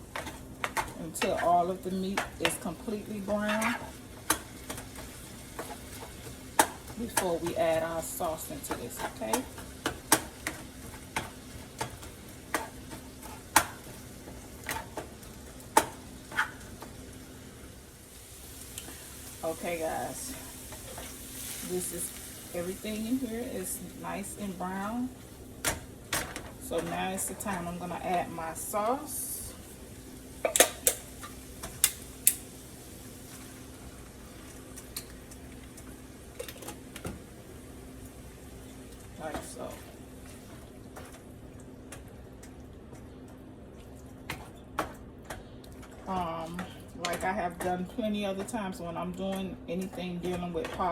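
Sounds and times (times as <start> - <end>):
sausage sizzling in a frying pan: 0.0 - 42.4.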